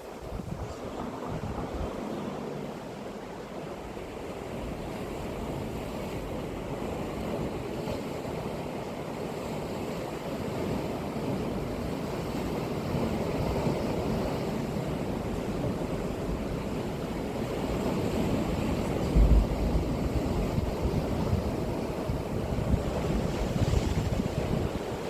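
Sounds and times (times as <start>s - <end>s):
sea waves washing ashore: 0.0s - 25.0s.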